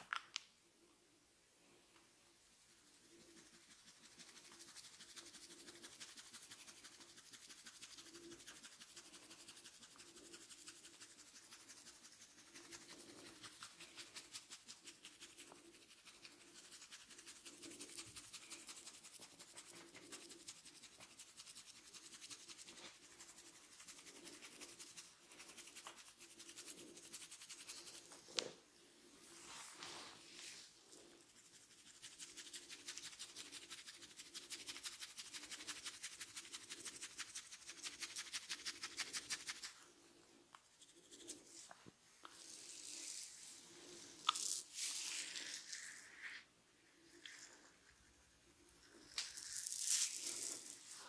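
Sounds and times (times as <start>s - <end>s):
fingers rubbing through hair: 2.8s - 28.6s, 29.3s - 39.9s, 40.6s - 46.4s, 47.0s - 51.0s.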